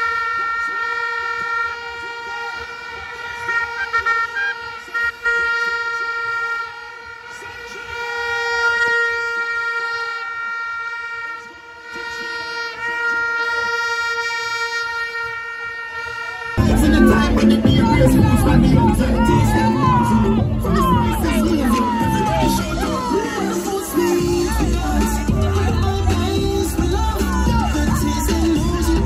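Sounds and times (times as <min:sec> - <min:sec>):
crowd blowing horns: 0:00.0 - 0:29.0.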